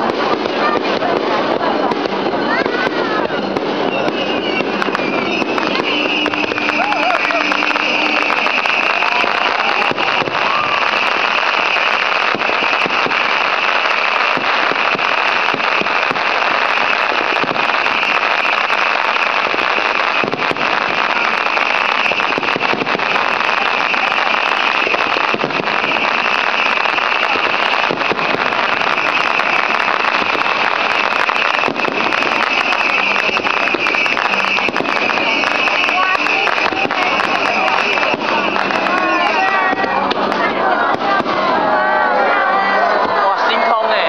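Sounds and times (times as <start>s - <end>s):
fireworks crackling: 0.0s - 44.0s.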